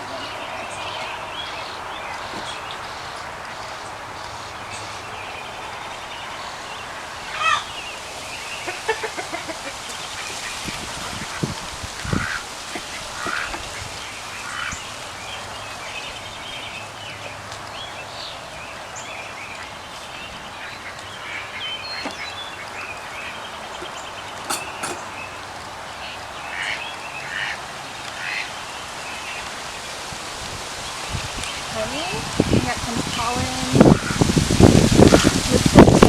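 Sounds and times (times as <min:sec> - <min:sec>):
birds calling: 0:00.0 - 0:36.0
steady outdoor hiss: 0:00.0 - 0:36.0.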